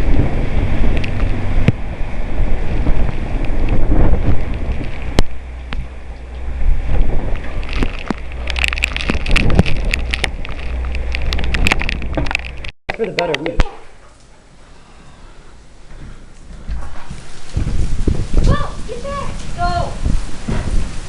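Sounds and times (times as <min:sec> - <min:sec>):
strong wind buffeting microphone: 0:00.0 - 0:12.7, 0:15.6 - 0:21.0.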